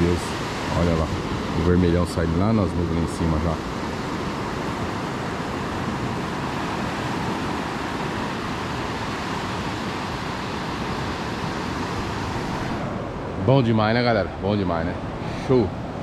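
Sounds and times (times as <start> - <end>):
beach surf: 0.0 - 16.0
wind noise on microphone: 0.0 - 16.0.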